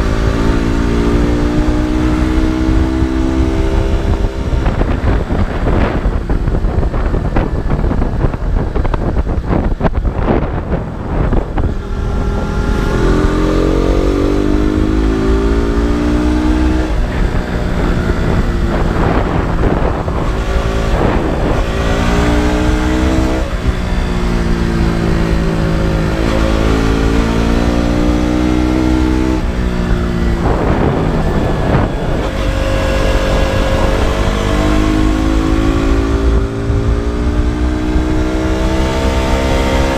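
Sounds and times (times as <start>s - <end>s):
low wind rumble: 0.0s - 39.9s
motorcycle engine revving: 0.0s - 39.9s.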